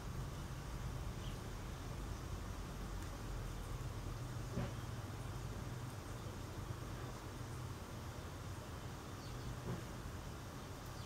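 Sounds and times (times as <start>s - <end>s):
even hiss: 0.0s - 11.0s
low background hum: 0.0s - 11.0s.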